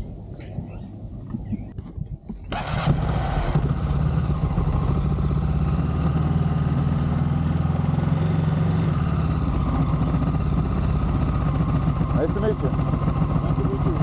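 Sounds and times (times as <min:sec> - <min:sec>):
motorcycle engine starting and idling: 0:02.4 - 0:14.0.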